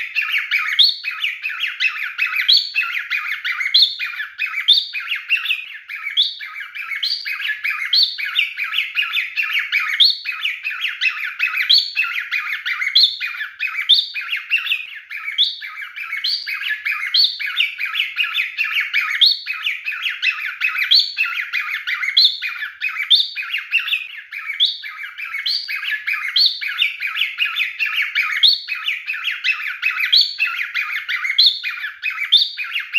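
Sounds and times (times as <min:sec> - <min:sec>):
cockatiel whistling and warbling: 0:00.0 - 0:32.9.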